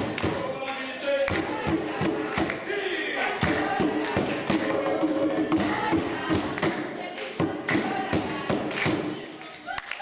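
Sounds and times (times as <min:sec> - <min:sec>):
heavy rhythmic thuds: 0:00.0 - 0:09.4
group singing folk song: 0:00.0 - 0:10.0.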